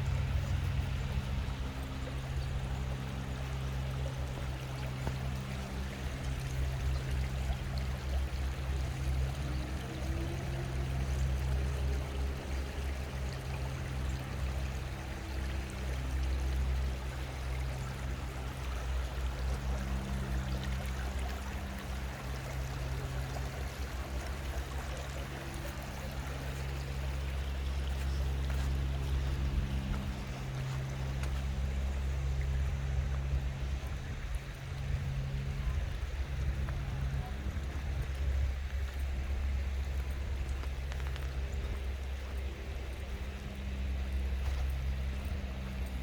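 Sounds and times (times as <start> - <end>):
steady low hum: 0.0 - 46.0
water running: 0.0 - 46.0.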